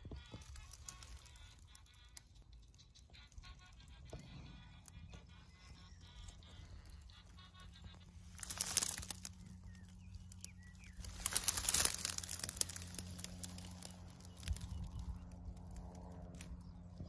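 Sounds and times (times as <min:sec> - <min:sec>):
rustling crinkling noise: 0:00.0 - 0:03.5, 0:06.1 - 0:16.6
small crackles: 0:00.0 - 0:17.0.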